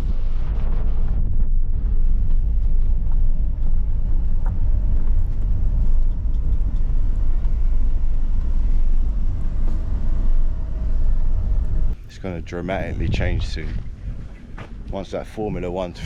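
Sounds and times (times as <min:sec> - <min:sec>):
faint steady whine: 0:00.0 - 0:16.0
vehicle engine rumble: 0:00.0 - 0:16.0.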